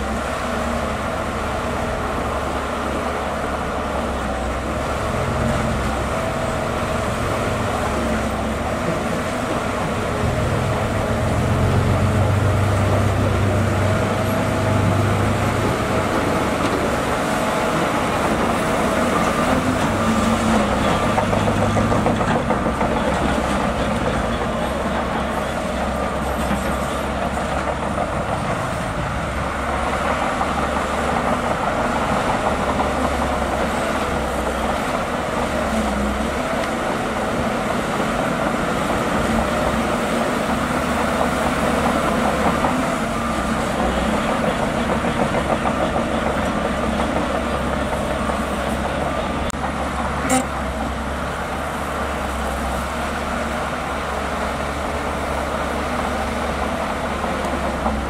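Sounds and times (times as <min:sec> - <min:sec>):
bulldozer diesel engine: 0:00.0 - 0:58.0.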